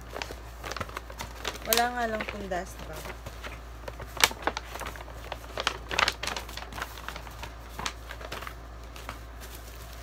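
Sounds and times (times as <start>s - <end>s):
paper bag rustling and crackling: 0.0s - 10.0s.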